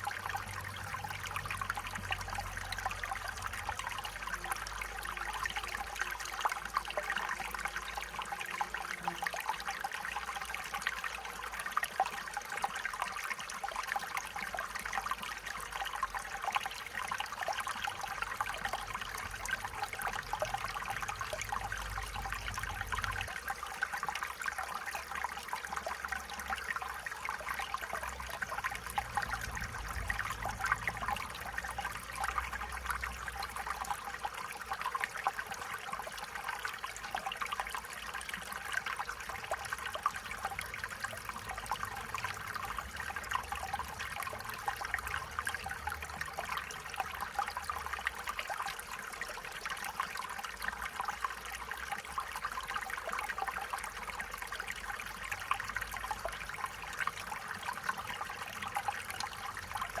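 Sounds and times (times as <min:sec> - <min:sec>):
stream trickling over stones: 0:00.0 - 1:00.0.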